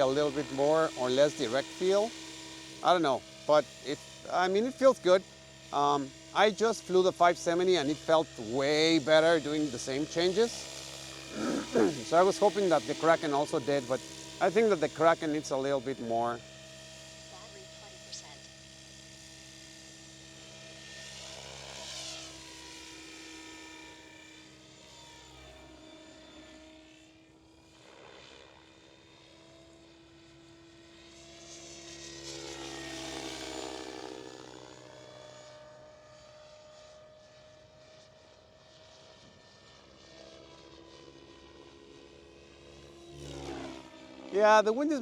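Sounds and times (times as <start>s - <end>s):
rc helicopter motor and rotor whine: 0.0s - 45.0s.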